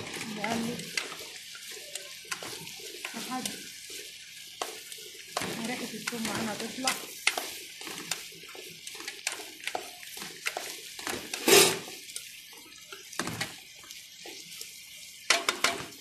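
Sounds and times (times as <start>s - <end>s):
utensil scraping in a pan: 0.0s - 16.0s.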